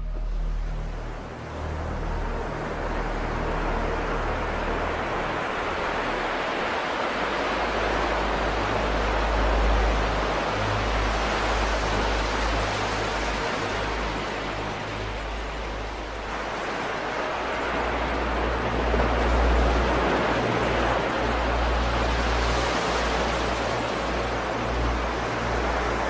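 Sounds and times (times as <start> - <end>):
low sustained tones: 0.0 - 26.0
waves breaking on a beach: 0.7 - 26.0.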